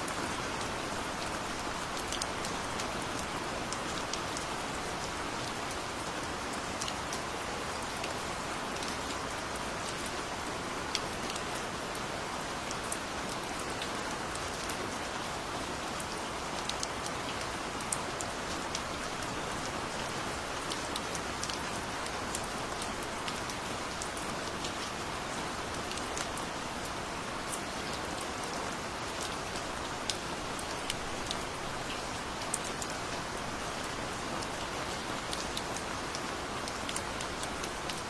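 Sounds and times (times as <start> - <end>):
gentle rain hiss: 0.0 - 38.0
raindrops pattering on a surface: 0.0 - 38.0.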